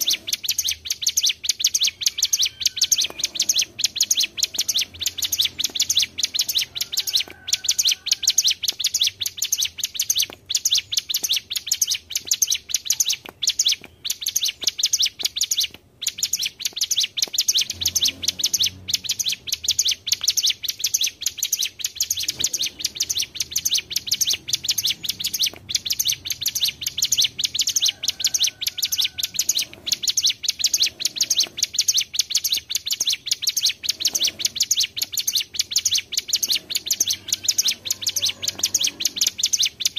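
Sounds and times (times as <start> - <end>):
birds singing rolling chatter: 0.0 - 39.9.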